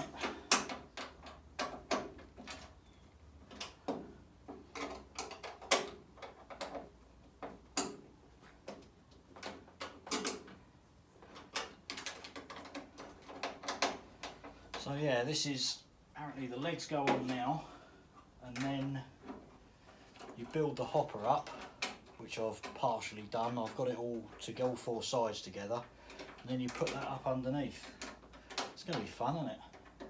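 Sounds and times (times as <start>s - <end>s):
metal clicks and knocks: 0.0s - 15.1s, 18.4s - 30.0s.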